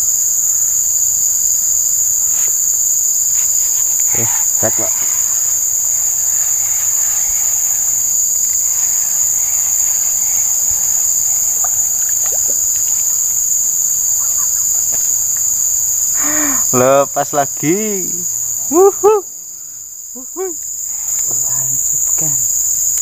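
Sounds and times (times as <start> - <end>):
shrill insect chorus: 0.0 - 23.0.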